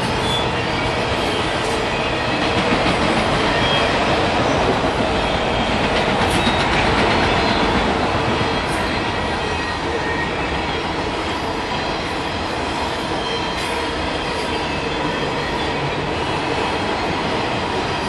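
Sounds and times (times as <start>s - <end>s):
train wheels running on rails: 0.0s - 18.0s.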